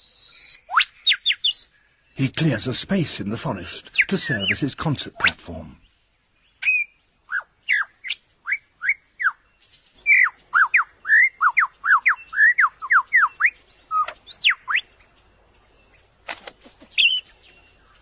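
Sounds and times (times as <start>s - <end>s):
lyrebird whistled song: 0.0s - 2.2s, 3.8s - 18.0s.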